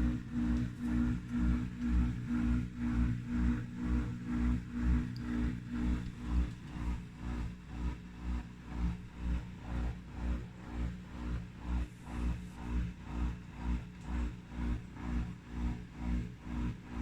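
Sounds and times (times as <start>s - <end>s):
dishwasher pulsing low hum: 0.0s - 17.0s.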